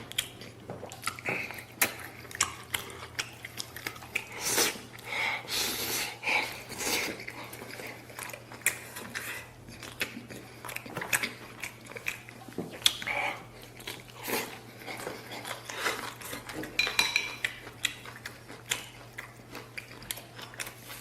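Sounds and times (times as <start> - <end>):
person biting and chewing meat: 0.0 - 21.0.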